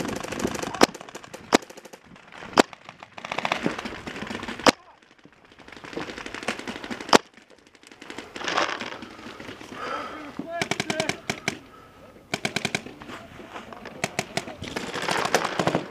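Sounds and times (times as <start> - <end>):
distant rapid paintball fire: 0.0 - 9.6, 10.6 - 11.6, 12.3 - 13.0, 14.0 - 15.9.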